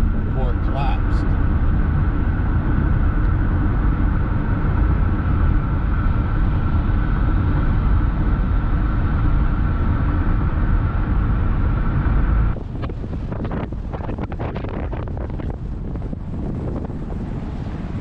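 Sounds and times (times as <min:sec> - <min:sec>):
tyre and engine rumble: 0:00.0 - 0:18.0.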